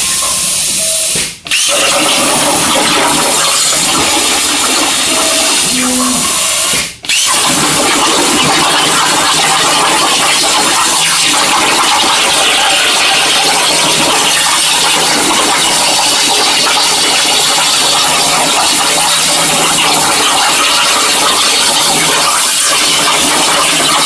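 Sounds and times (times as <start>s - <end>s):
plasma cutter hissing: 0.0s - 24.0s.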